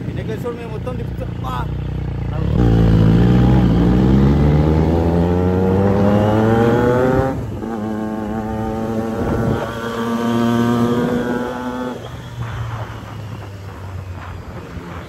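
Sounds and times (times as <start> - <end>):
motorcycle engine accelerating: 1.7 - 15.0.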